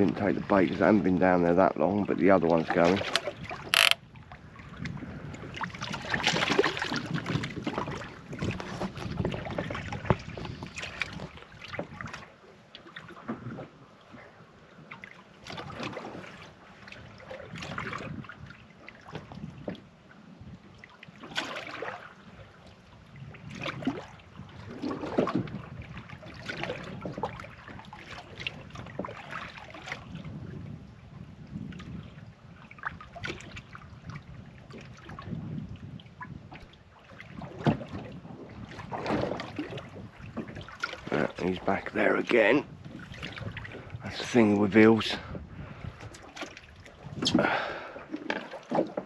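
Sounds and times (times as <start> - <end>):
wind on microphone: 0.0 - 12.3, 13.1 - 21.4, 22.2 - 49.0
water lapping against boat hull: 0.0 - 49.0.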